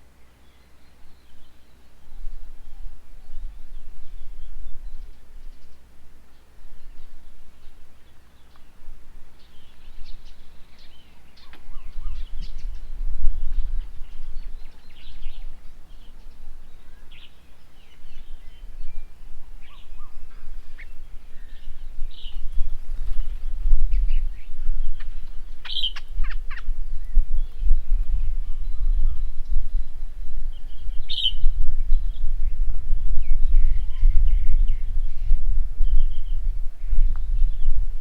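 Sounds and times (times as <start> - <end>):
birds chirping: 0.0 - 37.8.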